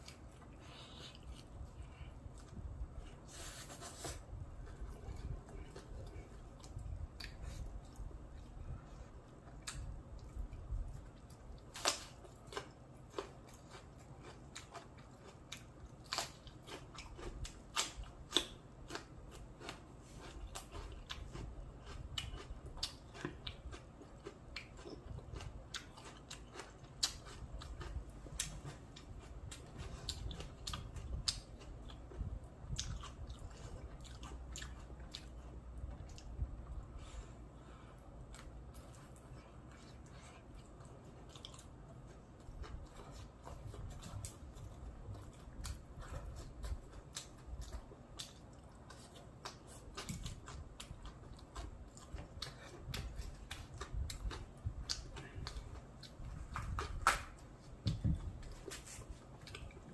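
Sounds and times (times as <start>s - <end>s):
person chewing crispy food: 0.0s - 59.9s.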